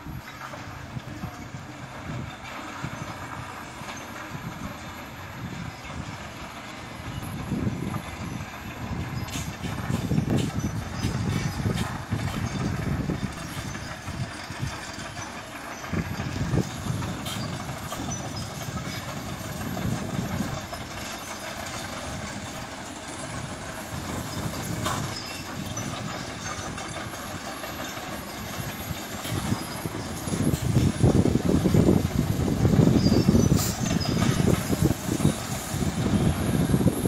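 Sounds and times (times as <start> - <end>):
truck engine rumble: 0.0 - 37.0.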